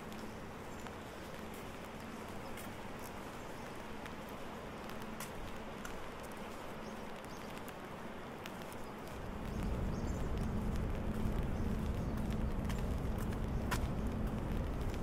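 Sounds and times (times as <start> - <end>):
footsteps on wet pavement: 0.0 - 15.0
rain falling: 0.0 - 15.0
raindrops tapping on umbrella: 0.0 - 15.0.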